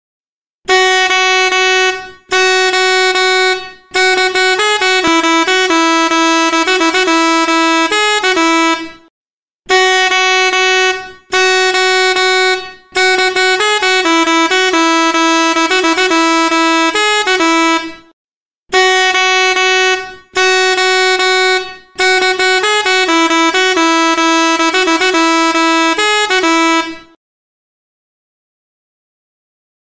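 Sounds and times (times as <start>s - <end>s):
horn melody of stepped notes: 0.7s - 9.1s, 9.7s - 18.1s, 18.7s - 27.2s
vehicle horn blasts: 0.7s - 9.1s, 9.7s - 27.2s.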